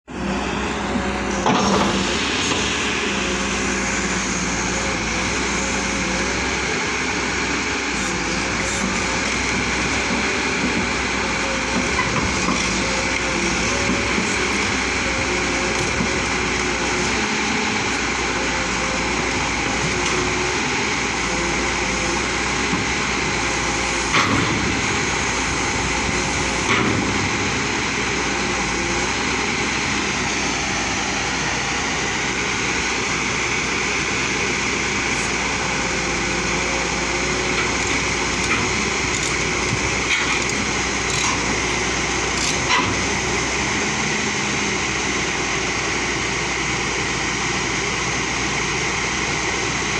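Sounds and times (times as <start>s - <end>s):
diesel engine running: 0.0s - 49.9s
high hydraulic whine: 0.1s - 49.9s.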